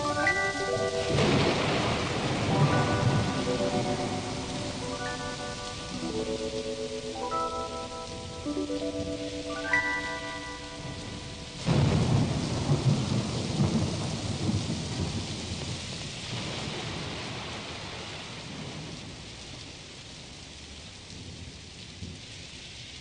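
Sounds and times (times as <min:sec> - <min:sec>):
thunder rumbling: 0:00.0 - 0:19.2
rain falling: 0:00.0 - 0:23.0.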